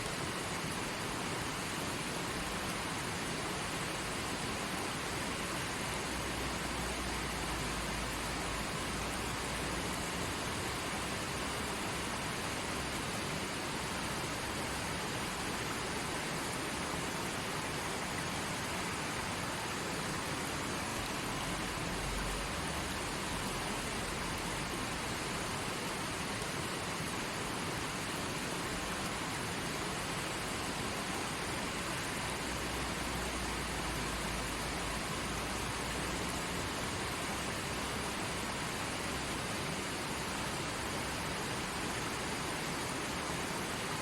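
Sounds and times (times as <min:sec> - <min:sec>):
stream flowing over rocks: 0:00.0 - 0:44.0.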